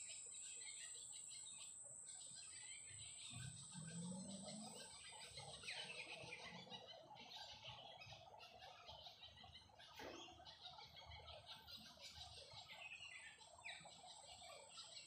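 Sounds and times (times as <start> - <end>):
birds calling and chattering: 0.0 - 15.0.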